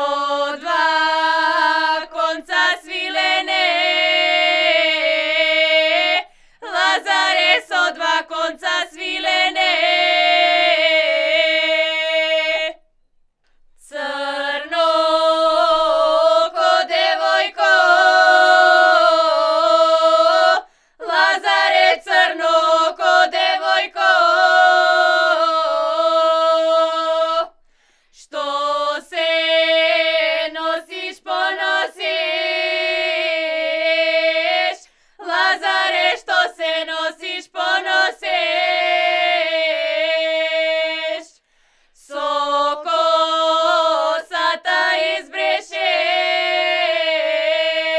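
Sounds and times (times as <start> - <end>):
women singing unaccompanied: 0.0 - 12.9, 13.8 - 27.6, 28.2 - 41.4, 42.0 - 47.9.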